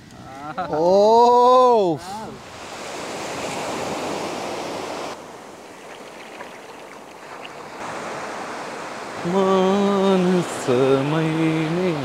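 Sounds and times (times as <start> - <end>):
surf rushing: 2.3 - 12.0.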